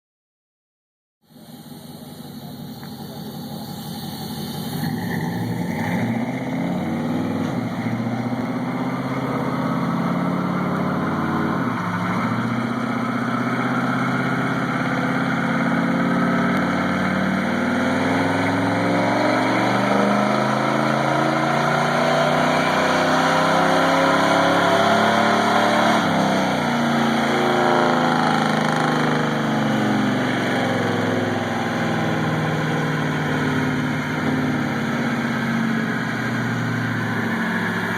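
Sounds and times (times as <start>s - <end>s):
truck engine under load: 1.4s - 37.9s.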